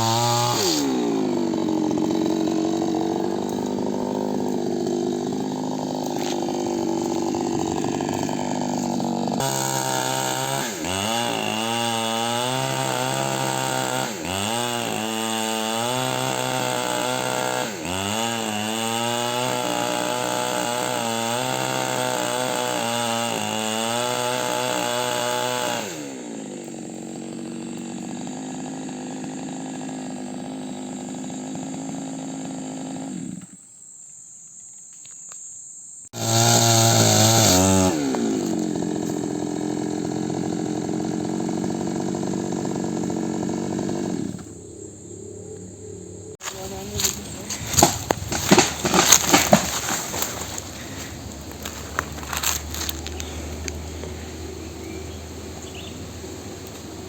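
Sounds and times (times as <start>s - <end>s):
chainsaw felling tree: 0.0s - 33.7s, 36.1s - 57.0s.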